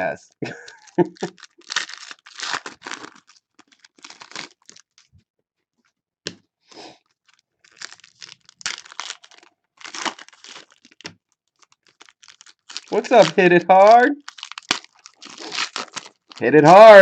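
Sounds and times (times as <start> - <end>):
foil wrappers tearing and crinkling: 0.7 - 5.1, 7.0 - 16.9.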